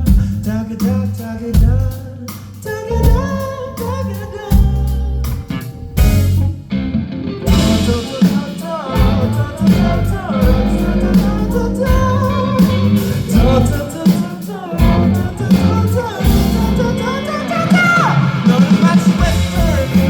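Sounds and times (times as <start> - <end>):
person singing: 0.0 - 5.8, 7.5 - 20.0
bass: 0.0 - 20.0
drums: 0.0 - 20.0
electric guitar: 3.2 - 20.0.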